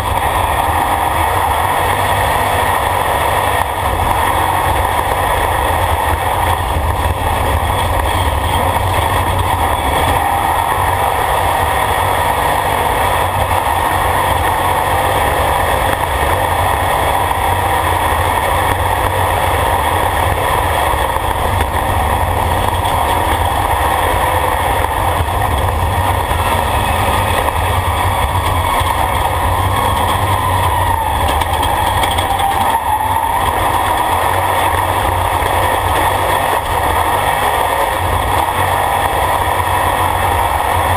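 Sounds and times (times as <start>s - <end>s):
race vehicle engine droning: 0.0s - 40.9s.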